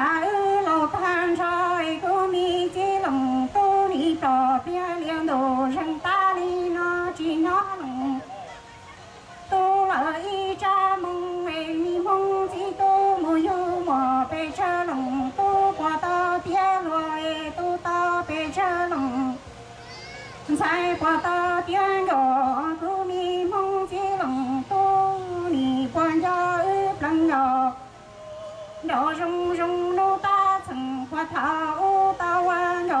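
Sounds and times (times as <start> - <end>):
woman singing into microphone: 0.0 - 8.5, 9.4 - 19.6, 20.5 - 33.0.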